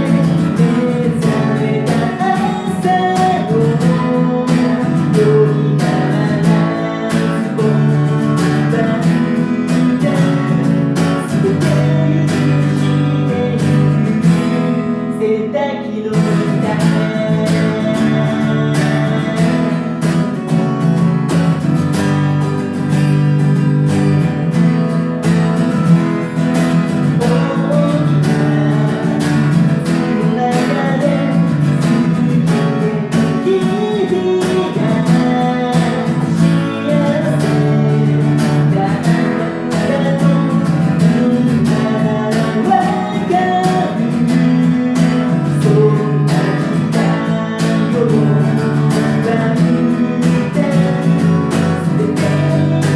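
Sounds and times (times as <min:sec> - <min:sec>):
song with strummed acoustic guitar: 0:00.0 - 0:52.9.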